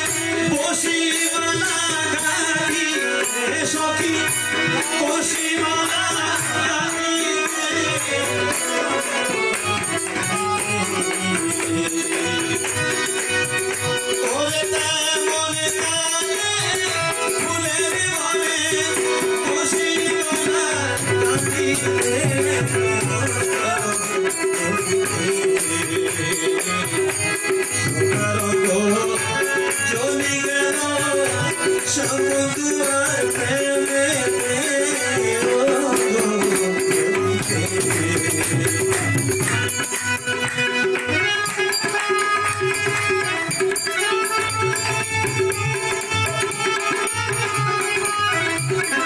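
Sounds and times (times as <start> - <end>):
harmonium melody: 0.0 - 49.0
rattling hand percussion: 0.0 - 49.0
tabla: 0.0 - 49.0.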